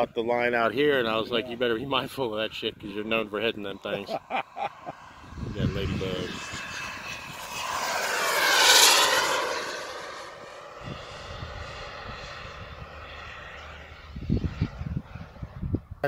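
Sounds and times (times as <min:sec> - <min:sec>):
model jet whine: 0:00.0 - 0:16.0.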